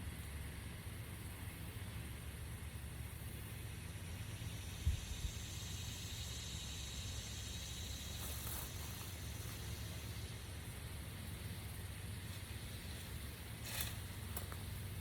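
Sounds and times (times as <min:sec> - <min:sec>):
steady hiss: 0:02.9 - 0:15.0.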